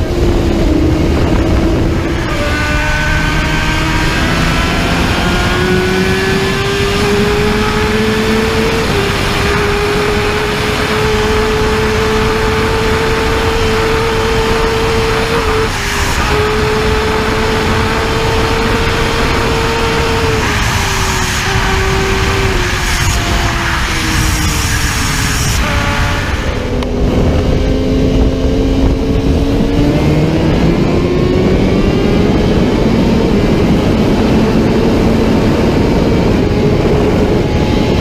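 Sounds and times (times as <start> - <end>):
motorcycle engine accelerating: 0.0 - 38.0
wind rushing: 0.0 - 38.0.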